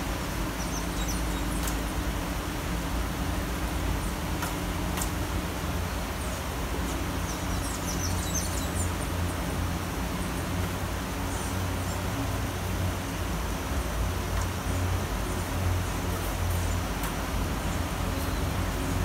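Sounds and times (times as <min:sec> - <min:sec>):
low traffic rumble: 0:00.0 - 0:19.0
rain hissing: 0:00.0 - 0:19.0.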